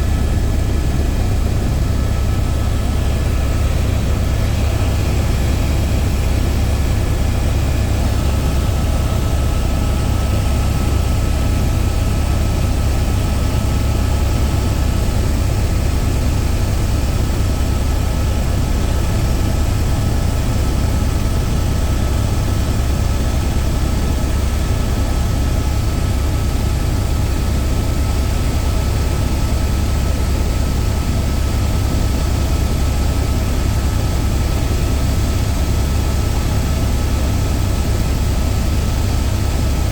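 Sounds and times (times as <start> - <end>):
helicopter cabin rumble: 0.0 - 39.9.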